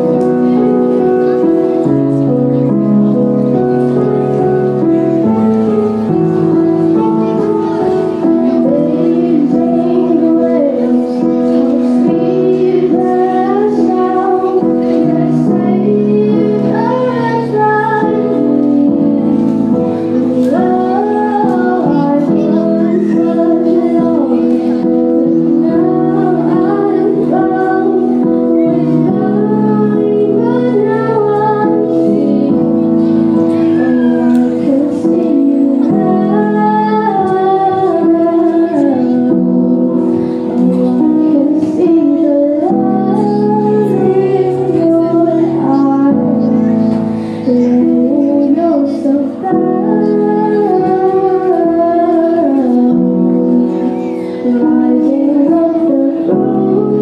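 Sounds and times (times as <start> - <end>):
girl singing into microphone: 0.0 - 57.0
held accompaniment chords: 0.0 - 57.0.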